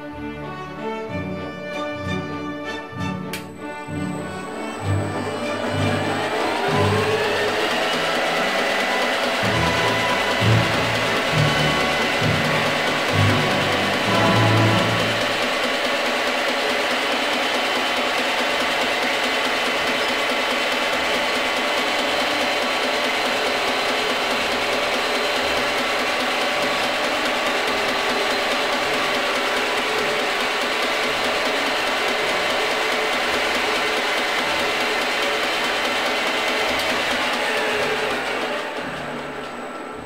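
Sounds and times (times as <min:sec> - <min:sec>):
milling machine whining: 0:01.8 - 0:40.0.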